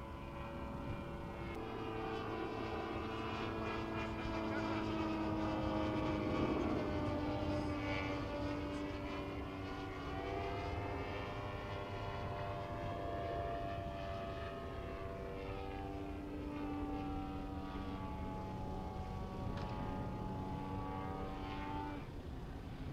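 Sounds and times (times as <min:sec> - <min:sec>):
model plane propeller drone: 0:00.0 - 0:22.9.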